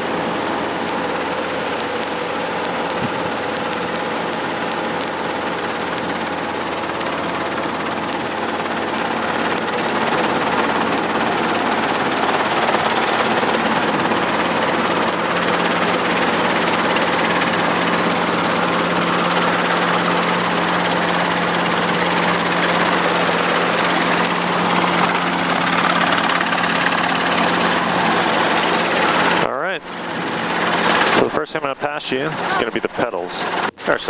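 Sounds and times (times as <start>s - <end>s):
helicopter engine and rotor: 0.0s - 33.8s.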